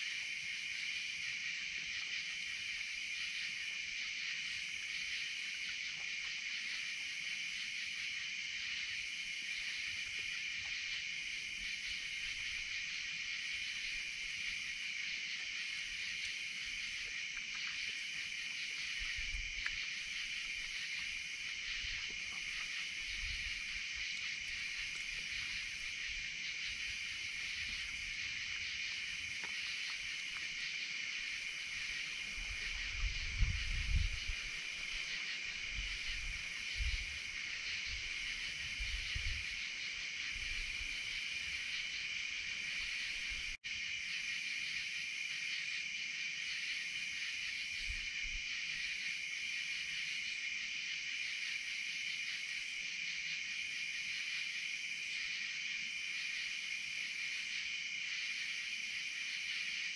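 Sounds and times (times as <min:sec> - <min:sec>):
night insects shrilling: 0:00.0 - 0:59.9.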